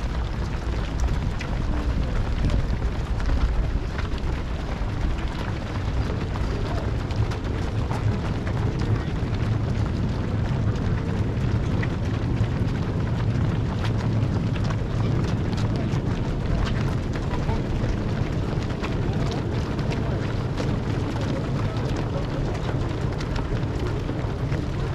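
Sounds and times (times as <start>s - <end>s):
faint voices: 0.0s - 24.9s
wind buffeting microphone: 0.0s - 24.9s.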